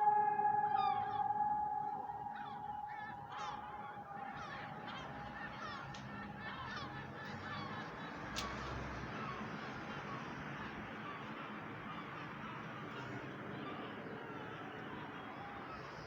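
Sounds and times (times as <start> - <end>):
civil defence siren steady tone: 0.0 - 8.2, 9.1 - 16.0
flock of birds calling: 0.0 - 16.0.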